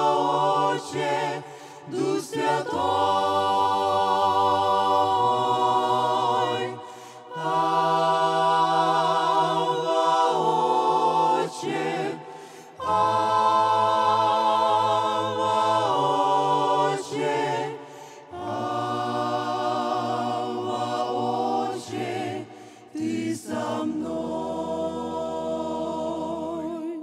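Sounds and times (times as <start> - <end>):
vocal ensemble singing worship song: 0.0 - 27.0.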